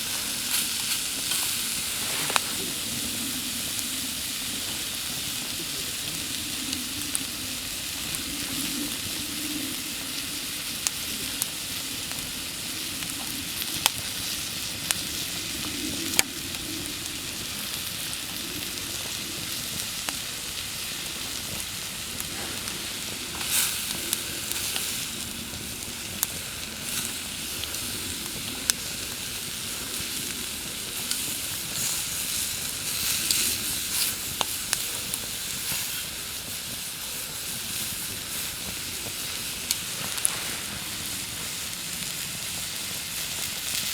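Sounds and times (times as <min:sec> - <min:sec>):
fire crackles and pops: 0:00.0 - 0:43.9
food sizzling over campfire: 0:00.0 - 0:43.9.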